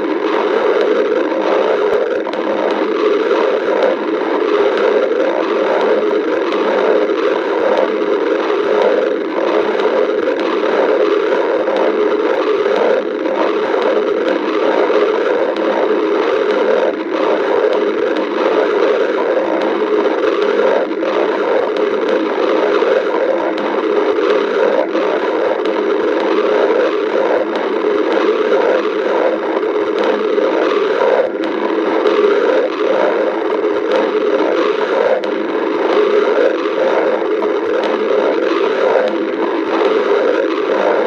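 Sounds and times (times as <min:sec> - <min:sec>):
stomach growling: 0:00.0 - 0:41.0.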